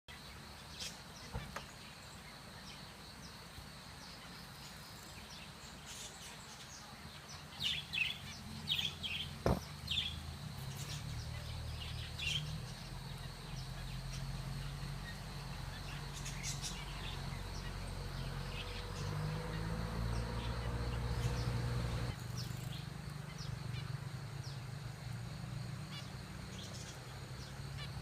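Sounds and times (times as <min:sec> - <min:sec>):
finches chirping: 0:00.1 - 0:25.1, 0:25.8 - 0:28.0.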